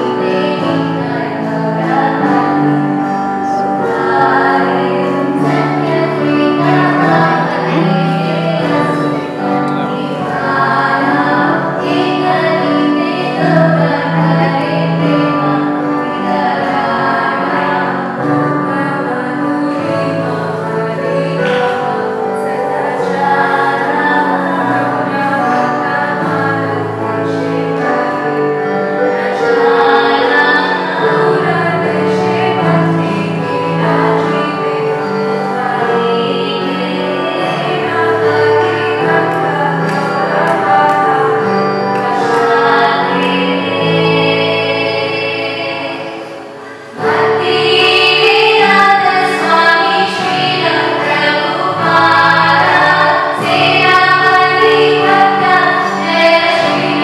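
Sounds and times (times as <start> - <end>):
women singing together: 0.0 - 57.0.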